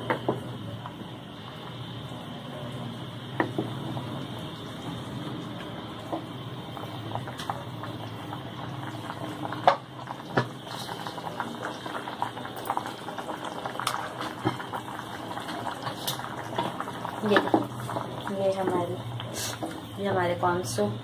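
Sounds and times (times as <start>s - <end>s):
soup bubbling in a pan: 0.0s - 20.1s.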